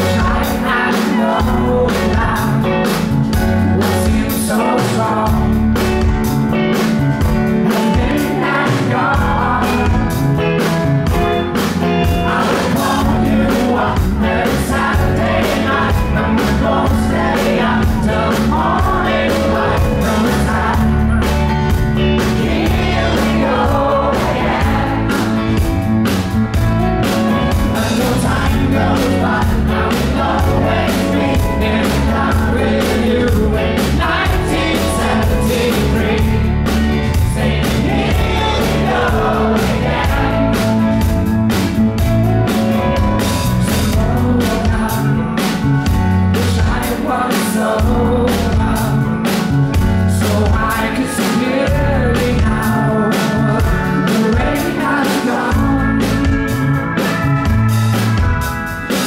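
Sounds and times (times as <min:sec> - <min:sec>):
man singing: 0:00.0 - 0:06.1, 0:07.5 - 0:10.6, 0:11.9 - 0:21.3, 0:22.2 - 0:25.6, 0:27.4 - 0:41.1, 0:42.4 - 0:57.5
bass: 0:00.0 - 0:59.0
keyboard: 0:00.0 - 0:59.0
piano: 0:00.0 - 0:59.0
steady drum beat: 0:00.0 - 0:59.0.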